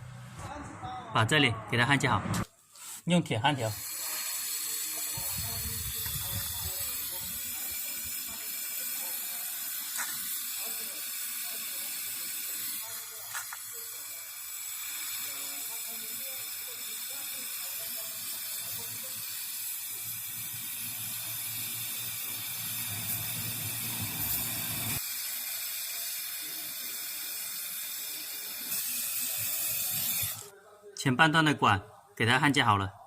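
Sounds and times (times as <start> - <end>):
gas torch hissing: 3.6 - 30.5.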